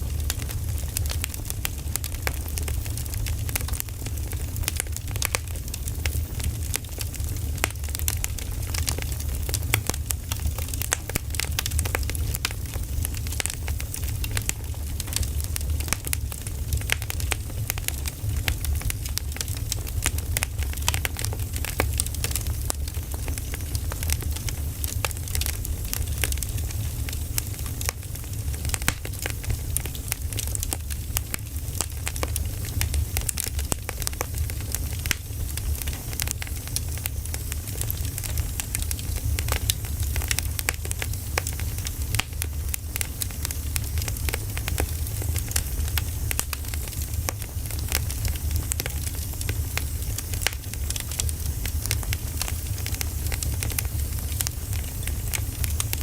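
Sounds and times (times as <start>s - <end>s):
firewood crackling and popping: 0.0s - 56.0s
low fire rumble: 0.0s - 56.0s.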